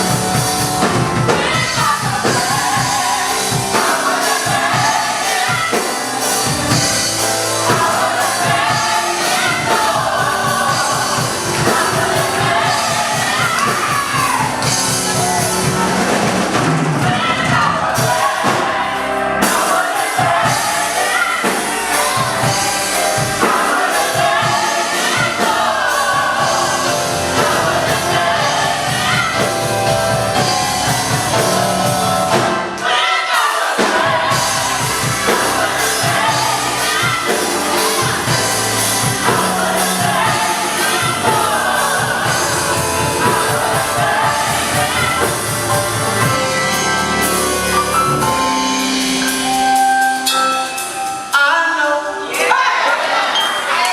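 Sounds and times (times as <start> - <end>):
instrumental accompaniment: 0.0 - 52.2
gospel choir singing: 0.0 - 53.9.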